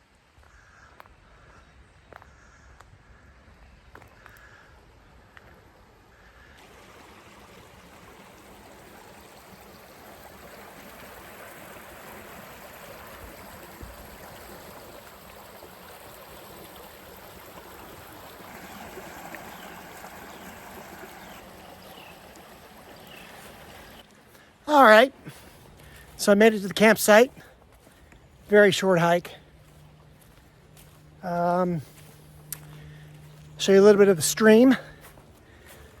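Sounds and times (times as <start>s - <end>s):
creek flowing: 0.0s - 36.0s.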